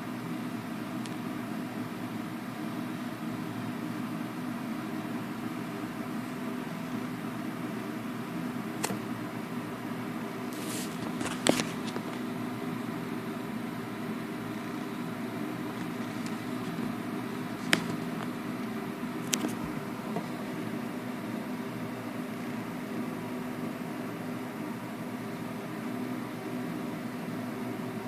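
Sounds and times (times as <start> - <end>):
low machine hum with hiss: 0.0 - 28.0.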